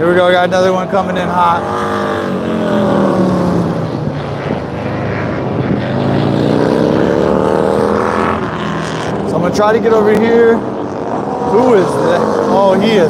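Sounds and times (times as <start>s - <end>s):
motorcycle engine slowing and accelerating: 2.1s - 13.0s.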